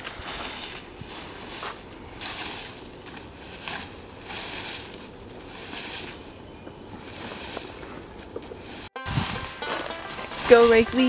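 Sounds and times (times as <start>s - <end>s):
rake scraping dry leaves: 0.0s - 11.0s.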